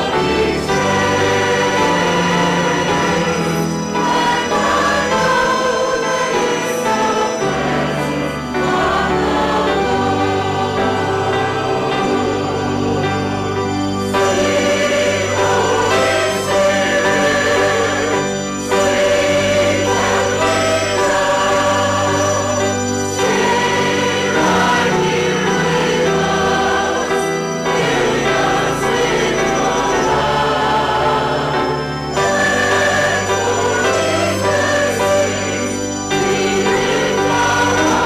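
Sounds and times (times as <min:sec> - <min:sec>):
congregation singing a hymn: 0:00.0 - 0:38.0
instrumental accompaniment: 0:00.0 - 0:38.0.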